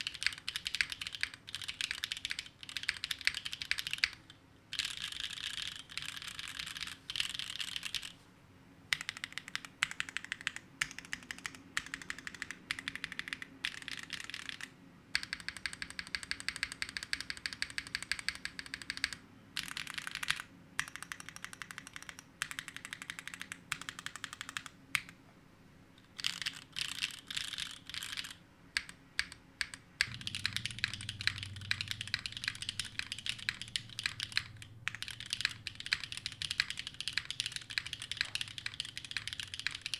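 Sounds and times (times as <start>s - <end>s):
mechanical keyboard typing: 0.0s - 8.2s, 8.9s - 25.2s, 26.2s - 39.9s.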